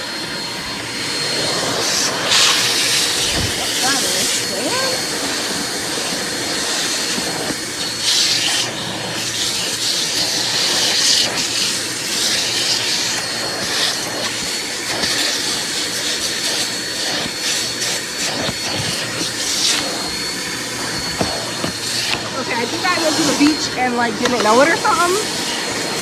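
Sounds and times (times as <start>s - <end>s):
vacuum cleaner whine: 0.0s - 26.0s
hissing air: 0.6s - 26.0s.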